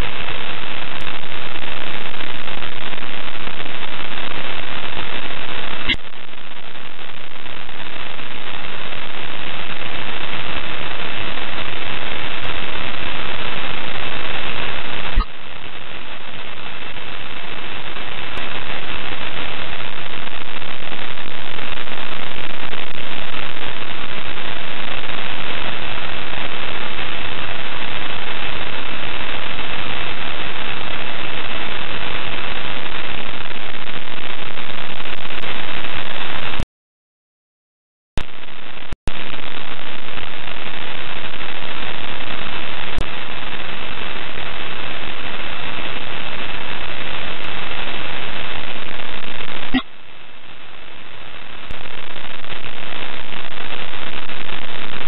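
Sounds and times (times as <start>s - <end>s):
static hiss: 0.0s - 36.6s, 38.2s - 55.0s.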